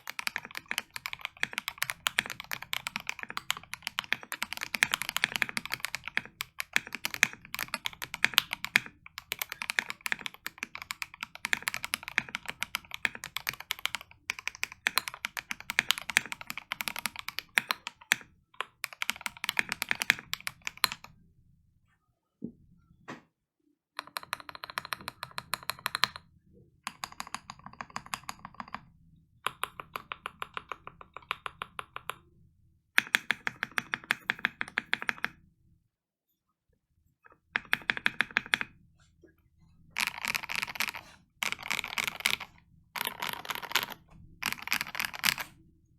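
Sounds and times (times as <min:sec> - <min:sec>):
keyboard typing: 0:00.0 - 0:21.1, 0:24.0 - 0:26.2, 0:26.9 - 0:32.3, 0:33.0 - 0:35.4, 0:37.3 - 0:38.8, 0:39.9 - 0:45.6.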